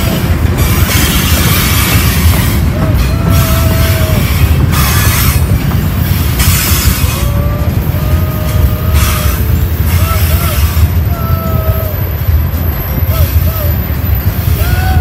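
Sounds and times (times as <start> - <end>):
freight train cars rumbling: 0.0 - 15.0
high whines from train wheels: 0.0 - 15.0.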